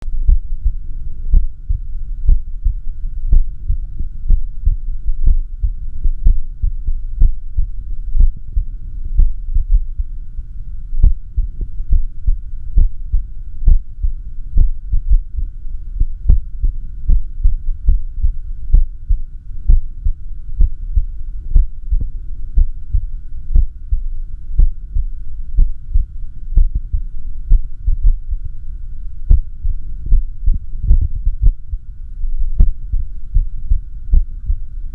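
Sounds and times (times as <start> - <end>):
steady low hum: 0.0 - 34.9
irregular heartbeat thumps: 0.2 - 10.1, 11.0 - 28.4, 29.2 - 34.7.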